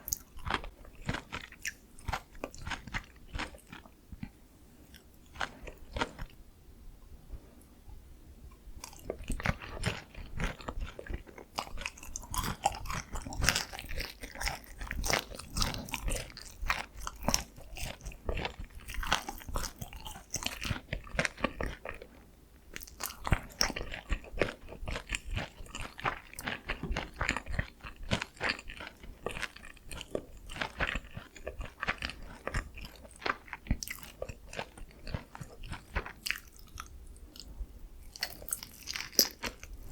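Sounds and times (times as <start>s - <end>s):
crunching and chewing fried chicken: 0.0s - 6.4s, 8.8s - 39.9s.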